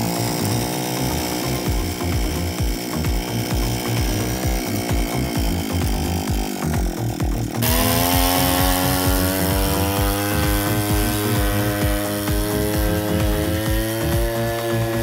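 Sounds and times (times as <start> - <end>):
small two-stroke engine running: 0.0 - 15.0.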